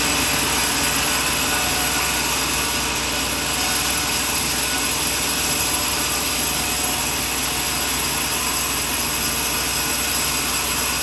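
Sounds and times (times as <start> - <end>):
sawmill machine noise: 0.0 - 11.0.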